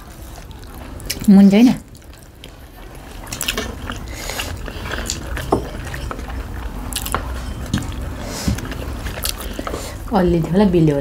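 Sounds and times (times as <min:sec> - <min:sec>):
fingers mixing food on steel plates: 0:00.0 - 0:10.6
chewing and mouth smacking: 0:00.2 - 0:10.0.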